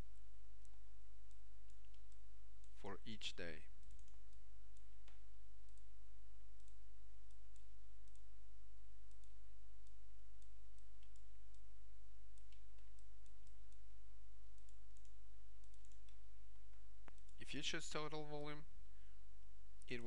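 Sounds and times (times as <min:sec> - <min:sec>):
faint high-pitched clicks: 0:00.0 - 0:18.6
low electrical hum: 0:00.0 - 0:20.0.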